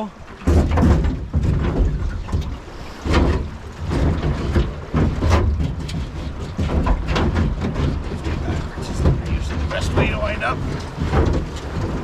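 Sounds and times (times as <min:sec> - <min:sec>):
jet boat engine: 0:00.0 - 0:12.0
rushing water: 0:00.0 - 0:12.0.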